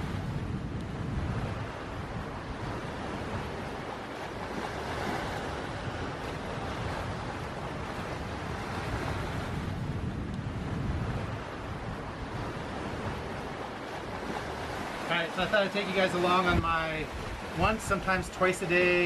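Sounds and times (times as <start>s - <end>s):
sea wash past hulls: 0.0s - 19.0s
wind buffeting microphone: 0.0s - 19.0s.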